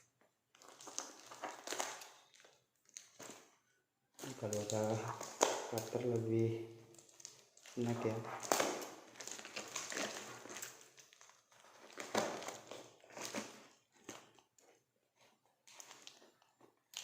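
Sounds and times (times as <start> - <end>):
plastic packaging crinkling: 0.1 - 17.0.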